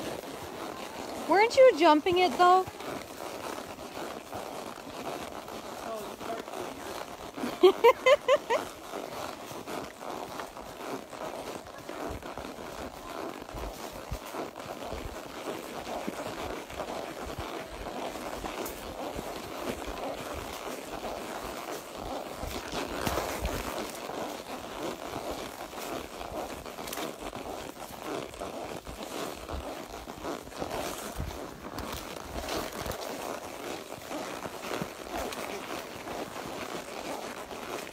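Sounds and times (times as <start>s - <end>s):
horse hooves walking: 0.0s - 37.9s.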